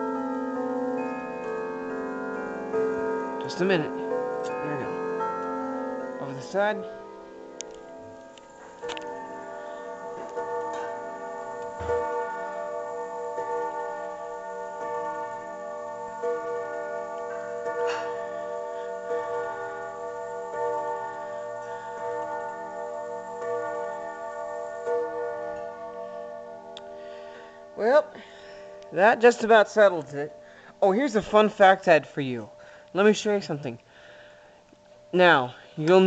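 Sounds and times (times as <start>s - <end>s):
clock chime rods striking: 0.0s - 33.5s.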